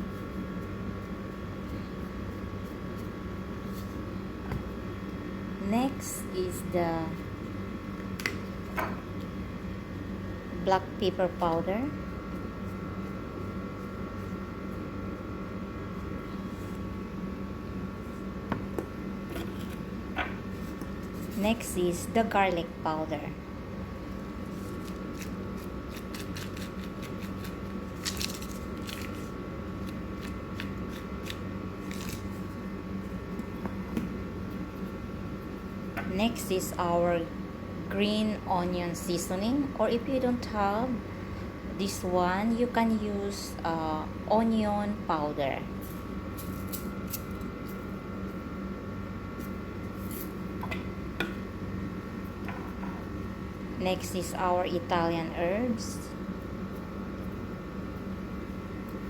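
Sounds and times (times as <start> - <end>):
appliance hum: 0.0 - 59.0.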